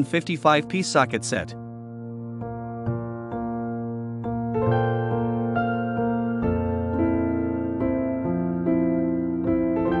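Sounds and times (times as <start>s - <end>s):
soft electric piano: 1.0s - 10.0s.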